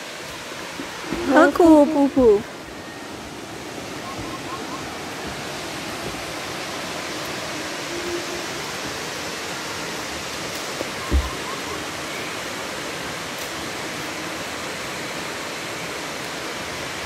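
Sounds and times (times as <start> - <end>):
waterfall roar: 0.0 - 17.0.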